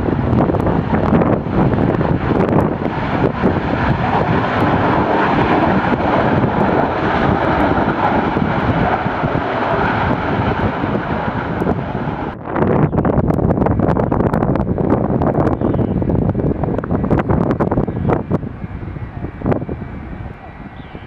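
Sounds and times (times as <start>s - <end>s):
aircraft engines roaring: 0.0s - 21.0s.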